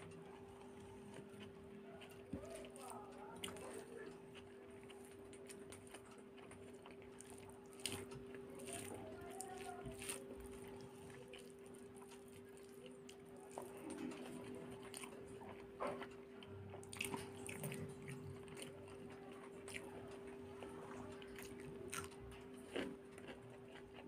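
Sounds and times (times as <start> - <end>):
chewing with wet mouth smacks: 0.0 - 24.0.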